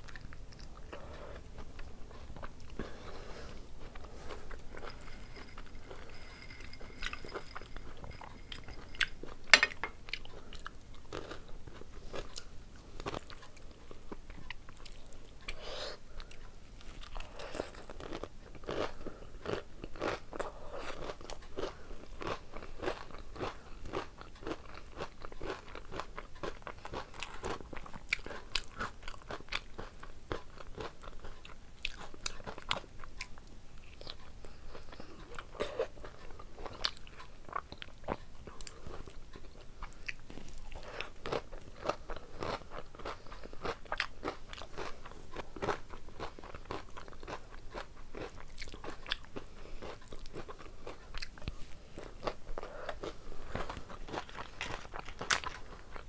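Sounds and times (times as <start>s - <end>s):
chewing with crisp crunches: 0.0s - 56.0s.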